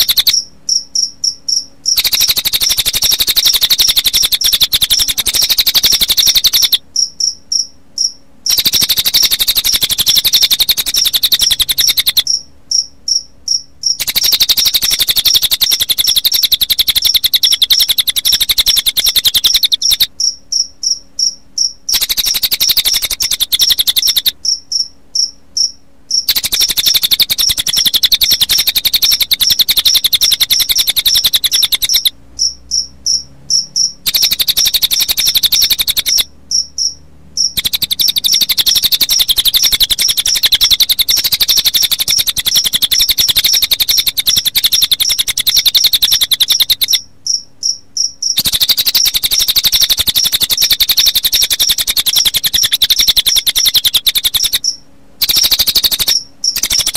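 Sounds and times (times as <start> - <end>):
bird's rapid trilling song: 0.0 - 56.9
cricket chirping: 0.0 - 56.9.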